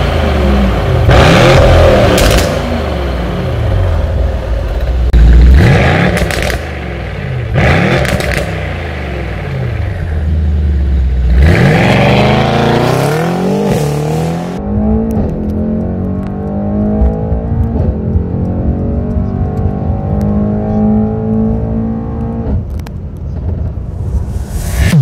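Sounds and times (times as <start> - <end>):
car engine revving and accelerating: 0.0 - 4.2, 5.1 - 22.6.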